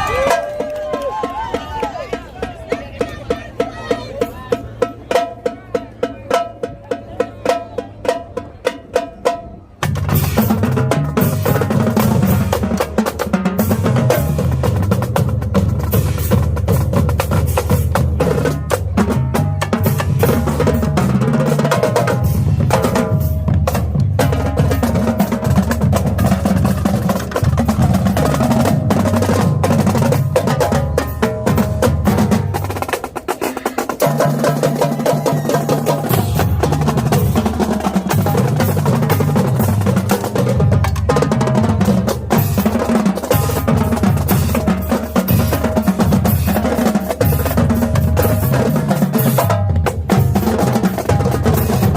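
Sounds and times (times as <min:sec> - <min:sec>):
snare drums rolling: 0:09.8 - 0:51.9.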